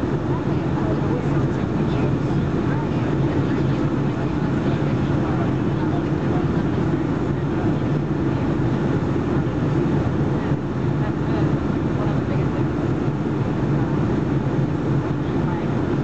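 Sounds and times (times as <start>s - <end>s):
engine hum in cabin: 0.0s - 16.0s.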